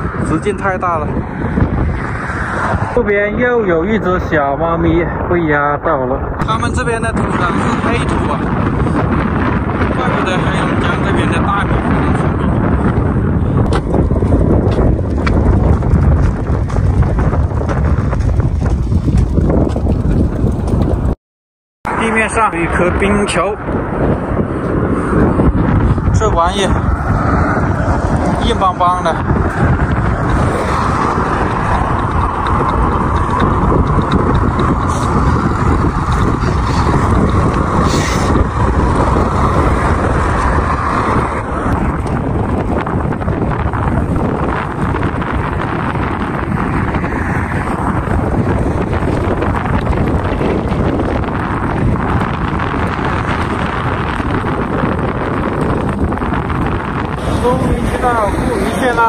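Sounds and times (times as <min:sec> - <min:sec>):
gusting wind buffeting microphone: 0:00.0 - 0:21.2, 0:21.9 - 0:59.0.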